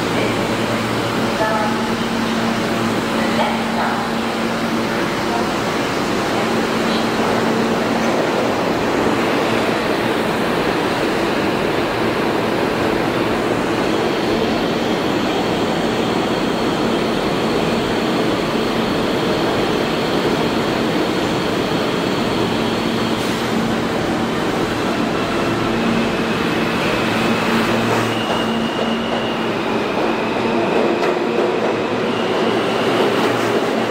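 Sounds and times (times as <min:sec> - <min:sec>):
subway train roar: 0:00.0 - 0:33.9.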